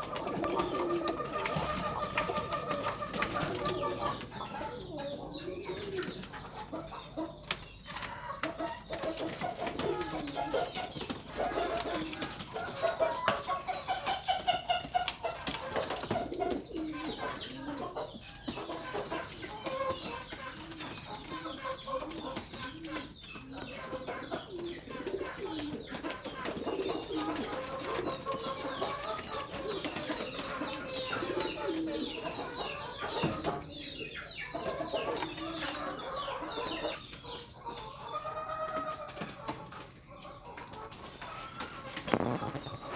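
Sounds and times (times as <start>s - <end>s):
pigeons cooing: 0.0s - 42.9s.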